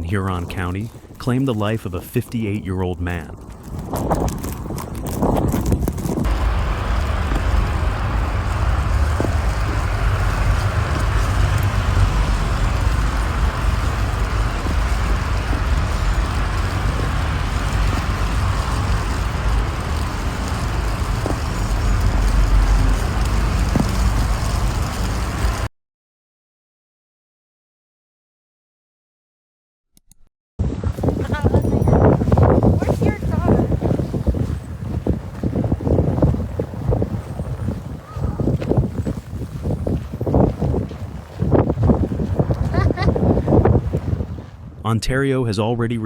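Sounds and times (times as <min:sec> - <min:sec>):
vehicle rumble: 0:00.0 - 0:25.7, 0:30.9 - 0:45.0.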